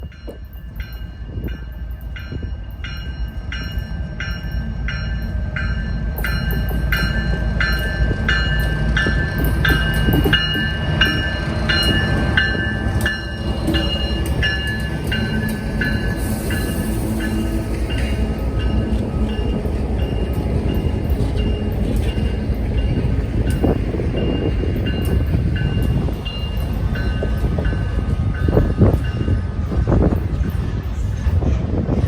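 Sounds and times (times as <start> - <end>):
diesel locomotive rumble: 0.0 - 32.0
bell ringing: 0.1 - 29.4.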